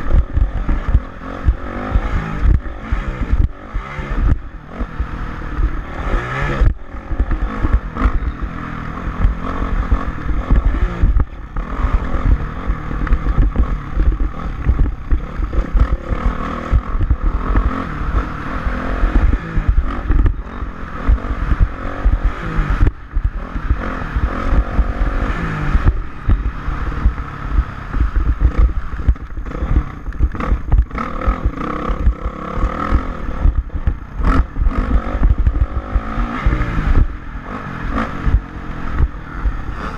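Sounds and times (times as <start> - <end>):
motocross bike engine: 0.0 - 39.9.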